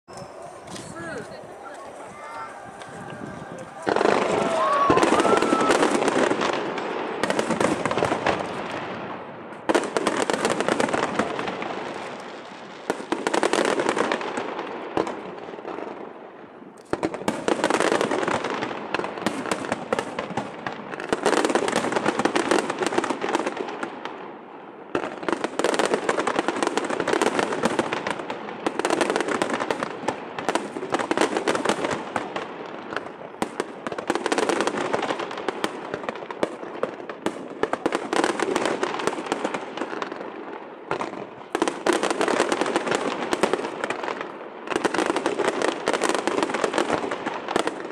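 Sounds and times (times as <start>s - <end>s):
fireworks crackling: 0.1s - 47.9s.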